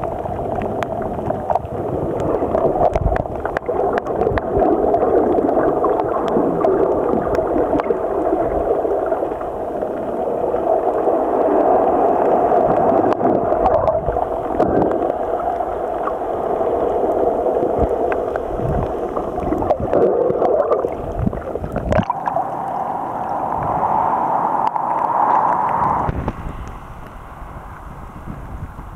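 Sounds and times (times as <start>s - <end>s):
muffled underwater water rushing: 0.0s - 28.9s
small waves splashing and lapping: 0.0s - 28.9s.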